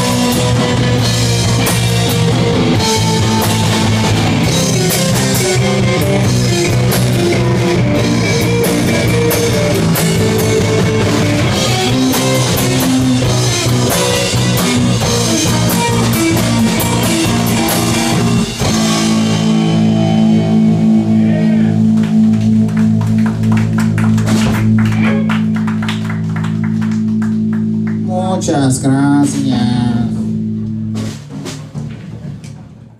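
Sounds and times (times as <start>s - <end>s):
live rock band playing: 0.0s - 32.2s
busy drumming: 0.0s - 32.9s.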